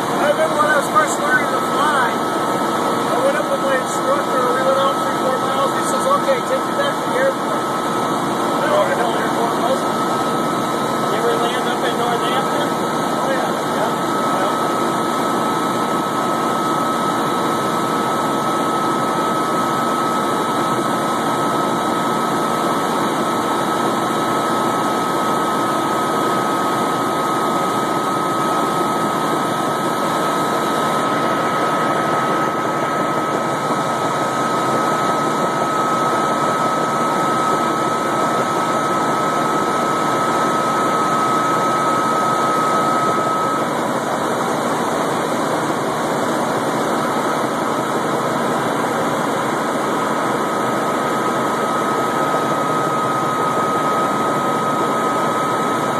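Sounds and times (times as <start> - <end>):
helicopter engine and rotor din: 0.0 - 55.9.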